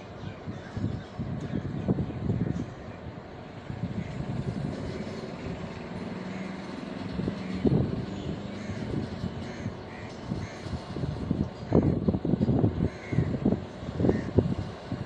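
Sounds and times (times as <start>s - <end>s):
locomotive hum: 0.0s - 15.0s
train rumbling: 0.0s - 15.0s.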